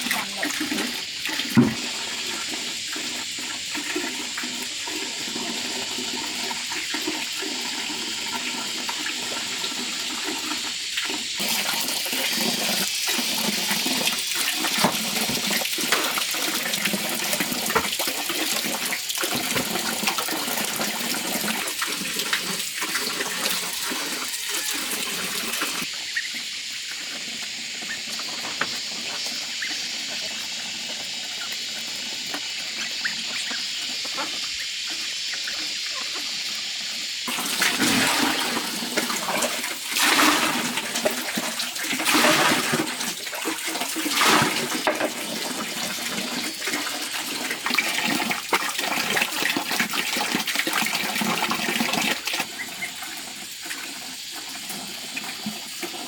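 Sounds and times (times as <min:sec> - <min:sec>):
water running and splashing: 0:00.0 - 0:56.0.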